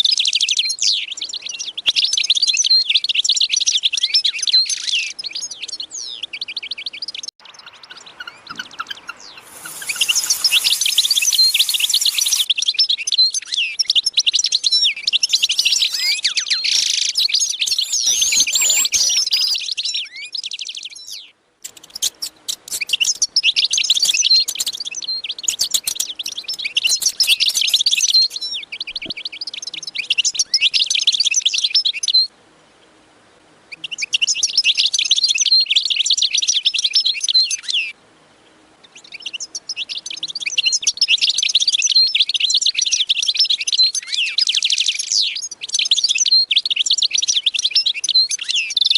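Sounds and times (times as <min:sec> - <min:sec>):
small birds chirping: 0:00.0 - 0:32.3, 0:38.8 - 0:48.9.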